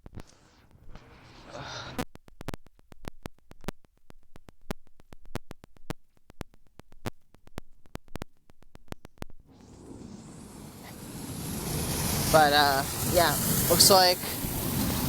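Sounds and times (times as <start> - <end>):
hail and raindrops ticking on phone: 2.0 - 15.0.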